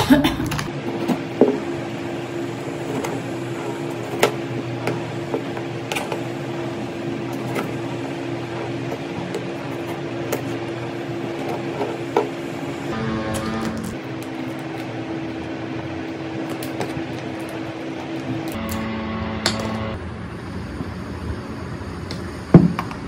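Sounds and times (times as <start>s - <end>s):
construction machinery hum: 0.0s - 22.9s.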